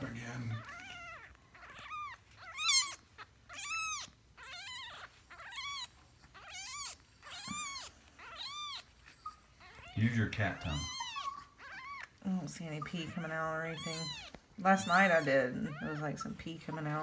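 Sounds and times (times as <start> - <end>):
kitten mewing: 0.0 - 16.1.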